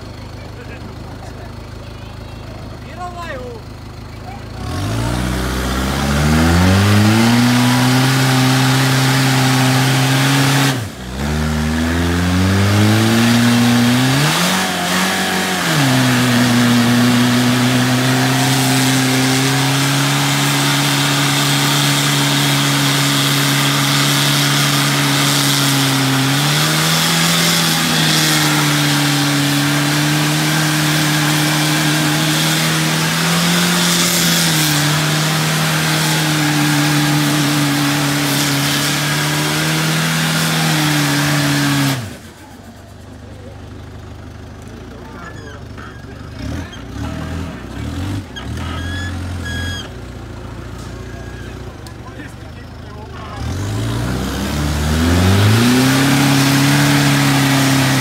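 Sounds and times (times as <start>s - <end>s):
engine revving hard: 4.5s - 42.6s, 45.3s - 49.9s, 53.2s - 58.0s.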